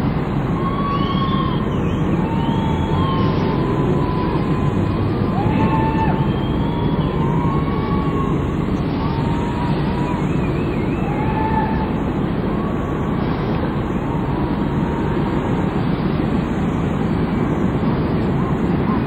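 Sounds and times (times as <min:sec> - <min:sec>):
steady low rumble: 0:00.0 - 0:19.0
ship steam whistles and horns: 0:00.3 - 0:16.6.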